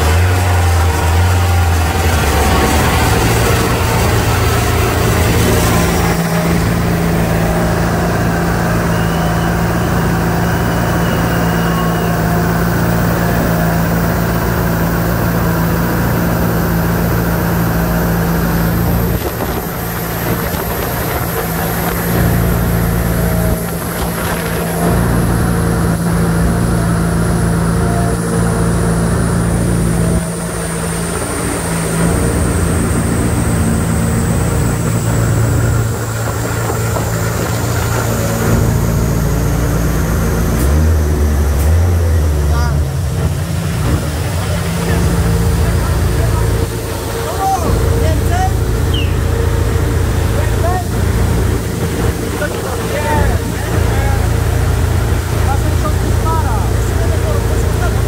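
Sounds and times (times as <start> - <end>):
faint high whine of rollers: 0.0 - 58.0
race car engine idling: 0.0 - 58.0.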